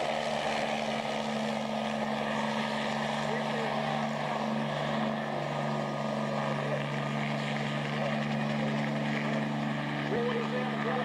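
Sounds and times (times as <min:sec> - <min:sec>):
helicopter engine and rotor hum: 0:00.0 - 0:11.0.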